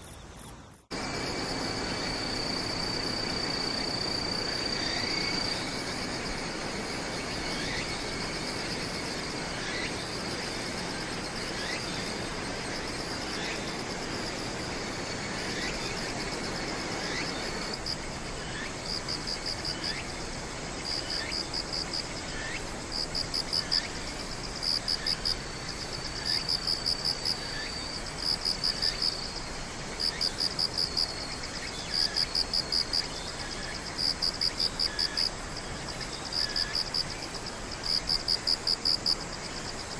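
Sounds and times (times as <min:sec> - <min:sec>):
crickets trilling: 0:00.0 - 0:39.9
pulsed cricket chirp: 0:00.0 - 0:39.9.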